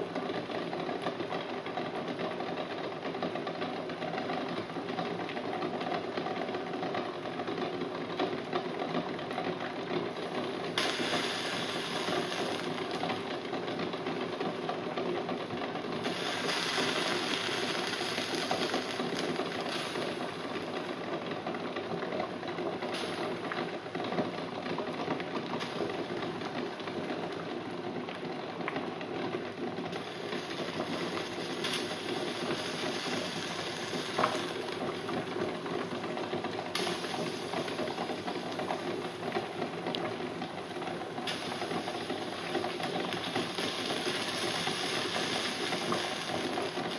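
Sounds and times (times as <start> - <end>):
water boiling: 0.0 - 46.9.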